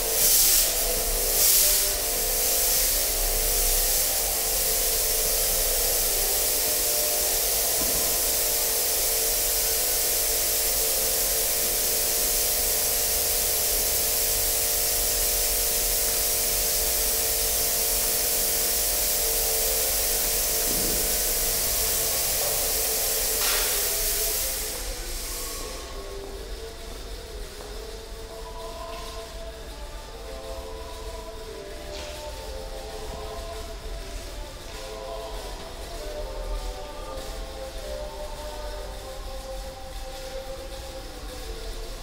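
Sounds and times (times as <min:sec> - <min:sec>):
fog machine hissing: 0:00.0 - 0:42.0.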